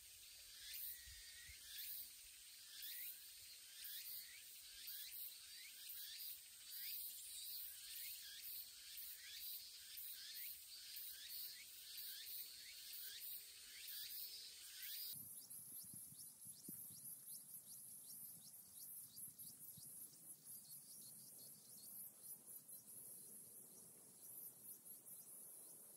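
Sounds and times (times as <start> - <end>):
insect chirping call: 0.0 - 25.9
insects buzzing: 0.0 - 25.9.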